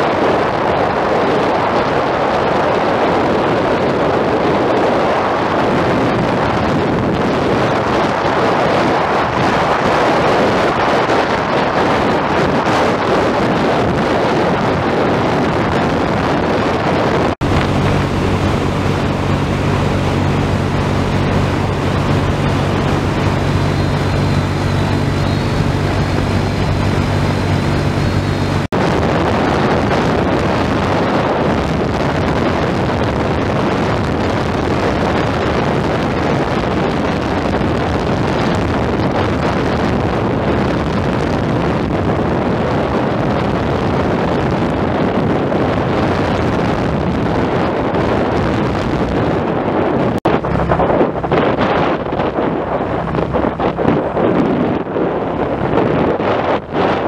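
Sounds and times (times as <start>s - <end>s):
motorbike engine hum: 0.0s - 57.0s
wind buffeting microphone: 0.0s - 57.0s.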